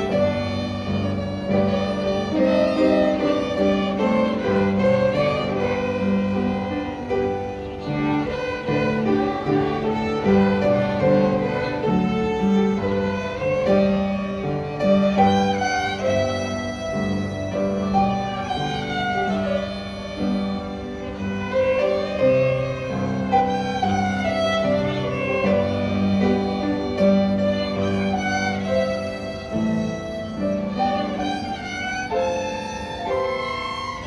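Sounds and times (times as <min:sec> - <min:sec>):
violin ensemble melody: 0:00.0 - 0:34.0.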